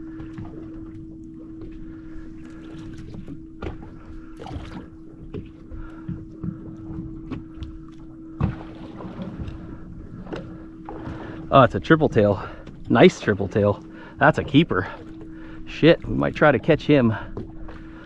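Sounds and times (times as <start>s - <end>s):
boat engine idling hum: 0.0s - 18.0s.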